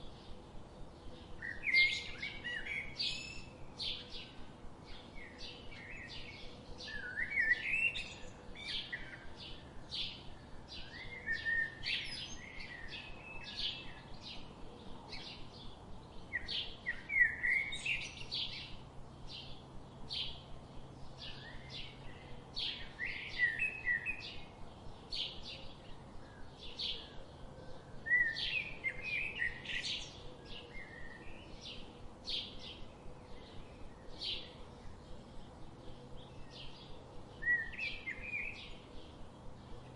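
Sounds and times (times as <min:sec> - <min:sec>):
bird warbling song: 0:00.0 - 0:39.9
songbirds chirping: 0:00.0 - 0:39.9.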